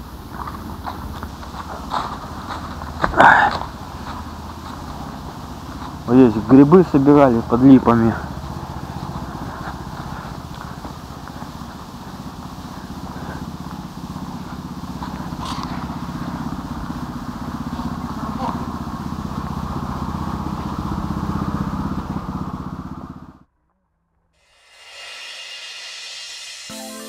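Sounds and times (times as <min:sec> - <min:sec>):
motor running low rumble: 0:00.0 - 0:23.5.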